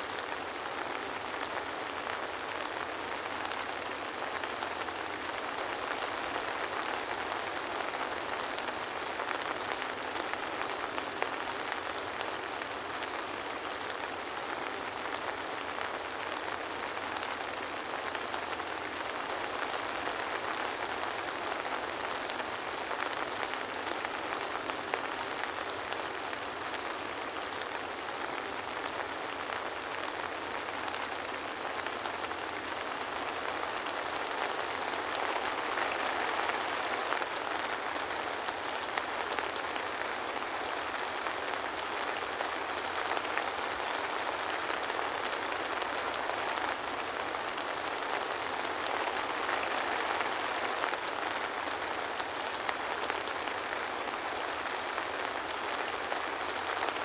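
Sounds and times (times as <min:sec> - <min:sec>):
soft rain pattering: 0:00.0 - 0:57.0.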